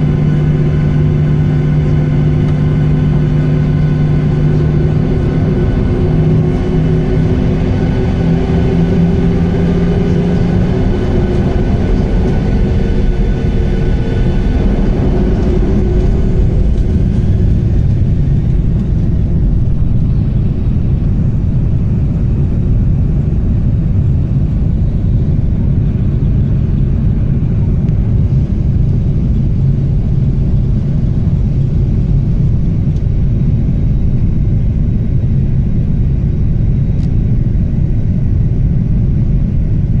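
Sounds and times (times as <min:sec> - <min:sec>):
jet engines rumbling: 0:00.0 - 0:40.0
whining fan tones: 0:00.0 - 0:40.0.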